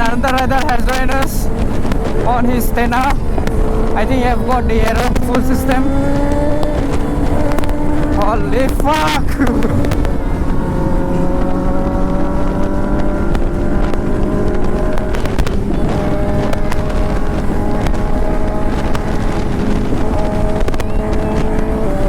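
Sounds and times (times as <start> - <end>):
motorcycle engine at high revs: 0.0 - 22.0
wind rushing over microphone: 0.0 - 22.0.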